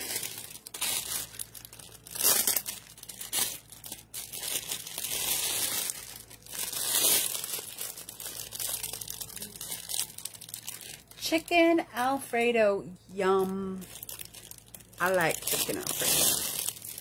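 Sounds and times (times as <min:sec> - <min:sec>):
packaging crinkling: 0:00.0 - 0:11.4, 0:13.4 - 0:17.0.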